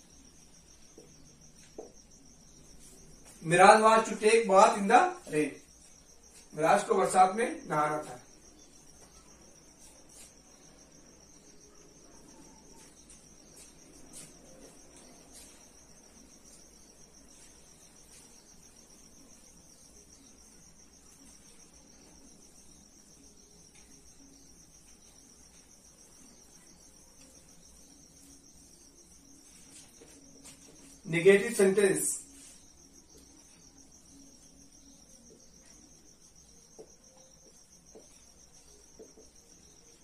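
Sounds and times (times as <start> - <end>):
high-pitched insect trill: 0.0 - 40.0.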